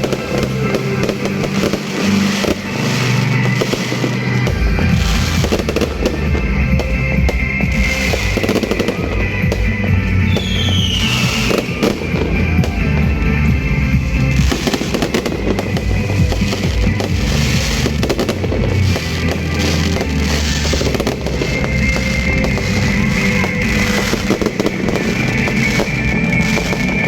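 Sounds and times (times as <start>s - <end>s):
falling firework whistle: 0.0s - 12.2s, 14.3s - 27.0s
fireworks bursting and crackling: 0.0s - 27.0s
music with heavy bass: 0.0s - 27.0s.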